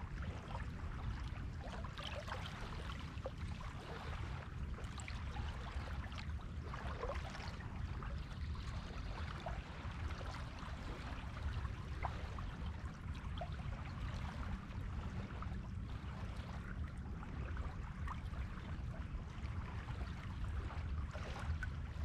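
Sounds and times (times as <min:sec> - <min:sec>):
constant low rumble: 0:00.0 - 0:22.0.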